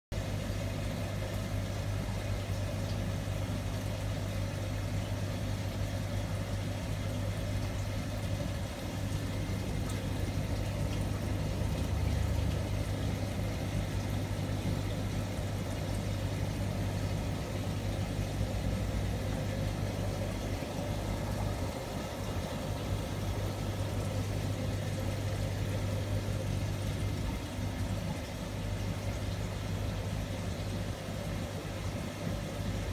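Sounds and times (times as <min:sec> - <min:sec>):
aquarium filters bubbling: 0:00.1 - 0:32.9
steady low hum: 0:00.1 - 0:32.9.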